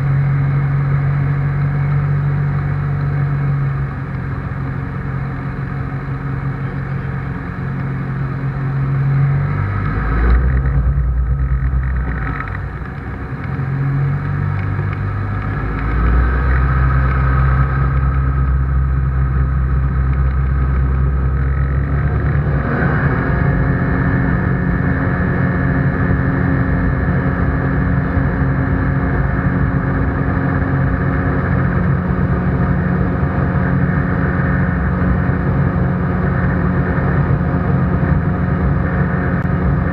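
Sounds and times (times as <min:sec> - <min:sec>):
propeller engine: 0:00.0 - 0:39.9.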